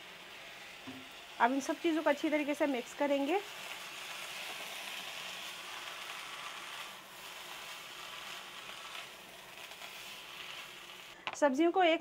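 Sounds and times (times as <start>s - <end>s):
spatula stirring in wok: 0.0s - 11.2s
vegetables sizzling in oil: 0.0s - 12.0s.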